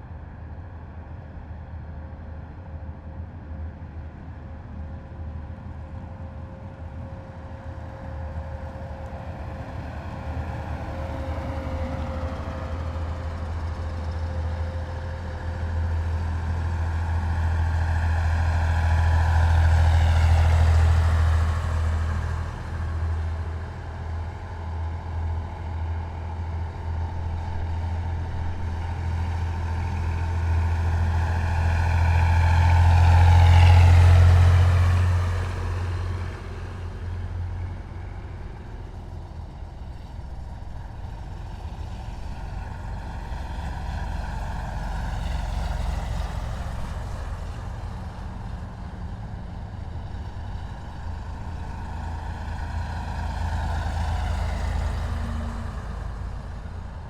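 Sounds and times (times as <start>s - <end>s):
heavy vehicles driving past: 6.5s - 57.0s.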